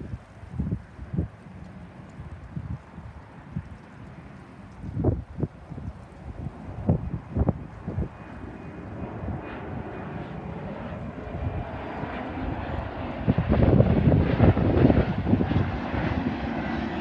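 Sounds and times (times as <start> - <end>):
jet airliner engines: 0.0 - 17.0.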